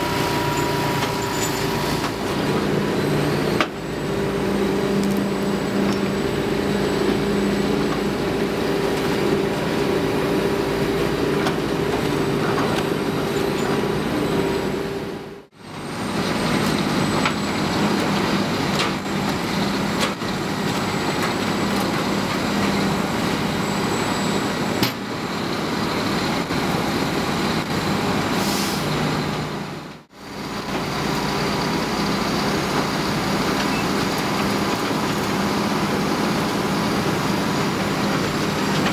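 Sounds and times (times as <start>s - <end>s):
diesel engines running under load: 0.0s - 38.9s.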